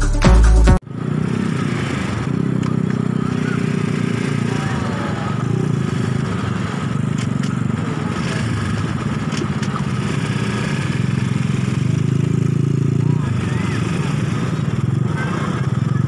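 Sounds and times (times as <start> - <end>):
quad bike engine idling: 0.9 - 16.0.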